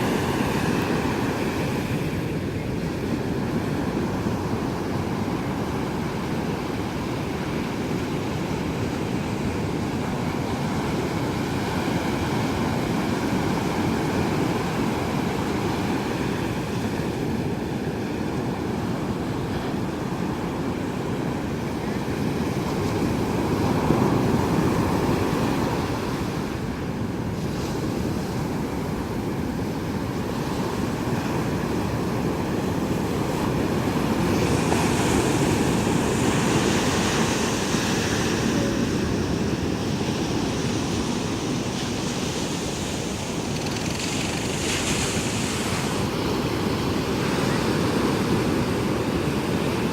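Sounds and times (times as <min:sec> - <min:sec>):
surf washing on a beach: 0:00.0 - 0:49.9.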